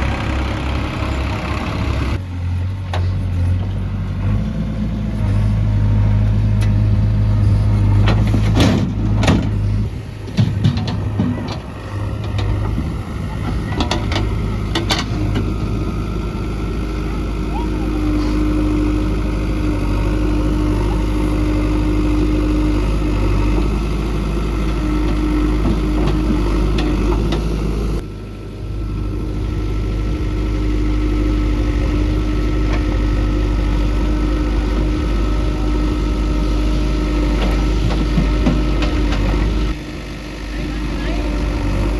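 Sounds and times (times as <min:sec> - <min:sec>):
diesel engines running: 0:00.0 - 0:41.9.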